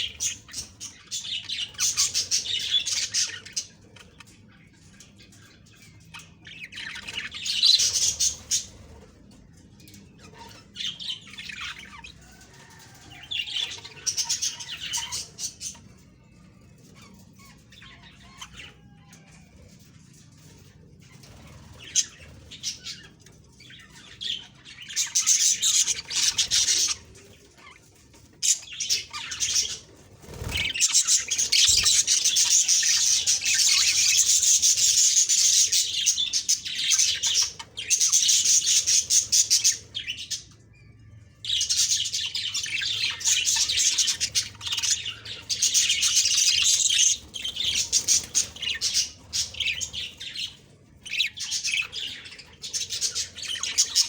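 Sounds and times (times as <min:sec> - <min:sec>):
budgerigars chattering and warbling: 0:00.0 - 0:09.2, 0:09.8 - 0:40.6, 0:41.5 - 0:54.0.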